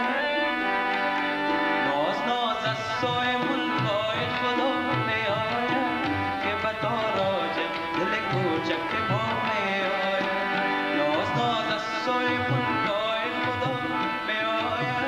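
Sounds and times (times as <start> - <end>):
harmonium sustained notes: 0.0 - 15.0.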